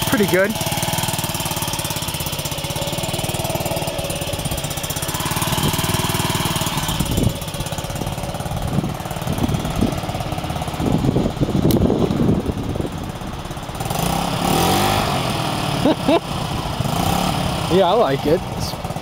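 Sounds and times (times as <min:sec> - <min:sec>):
scooter engine idling: 0:00.0 - 0:19.0.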